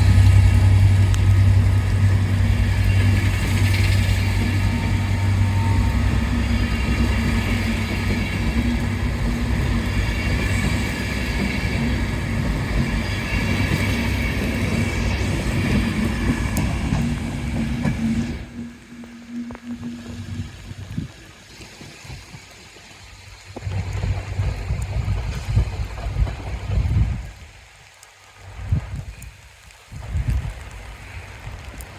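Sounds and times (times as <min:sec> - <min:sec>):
train engine drone: 0:00.0 - 0:27.5
heavy rain hissing: 0:00.0 - 0:31.9.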